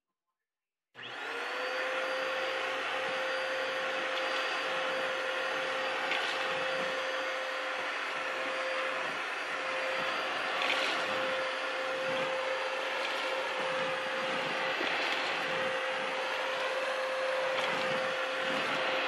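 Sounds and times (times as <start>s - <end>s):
vacuum cleaner running: 1.0s - 19.0s.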